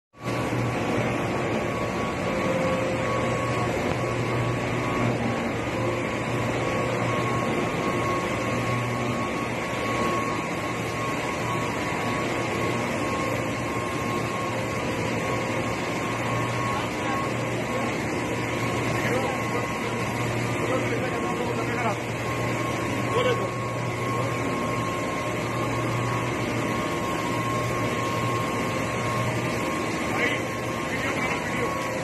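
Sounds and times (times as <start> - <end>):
high whine: 0.2 - 32.0
industrial machinery din: 0.2 - 32.0
low hum: 0.2 - 32.0.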